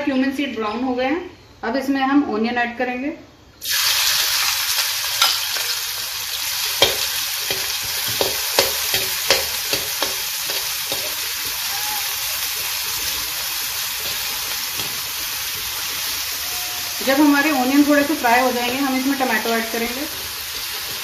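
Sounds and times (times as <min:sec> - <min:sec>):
onions sizzling in hot oil: 0:03.6 - 0:21.0.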